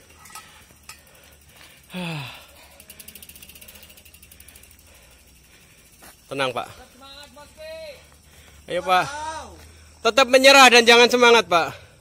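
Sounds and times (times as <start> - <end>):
bicycle hub ticking: 0.0 - 12.0.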